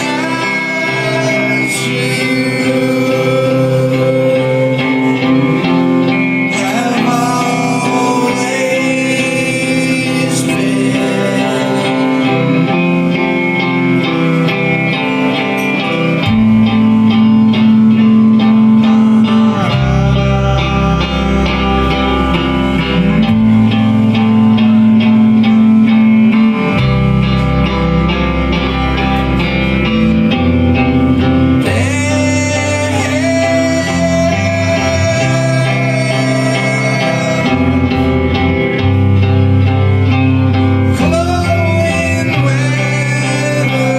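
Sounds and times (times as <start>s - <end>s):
bass guitar: 0.0s - 43.9s
electric guitars: 0.0s - 43.9s
person singing: 0.0s - 43.9s.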